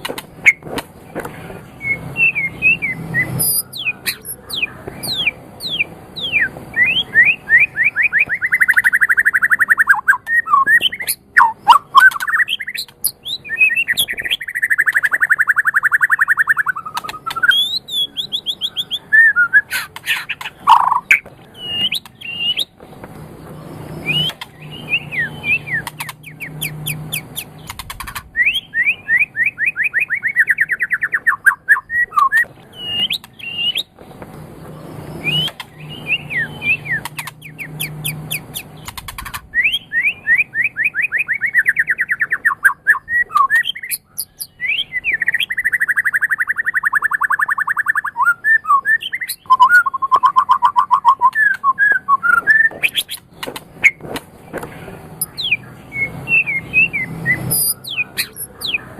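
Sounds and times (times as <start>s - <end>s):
bird singing whistled song: 1.7s - 22.7s, 23.8s - 27.7s, 28.3s - 33.9s, 34.9s - 38.7s, 39.5s - 54.0s, 55.2s - 58.9s.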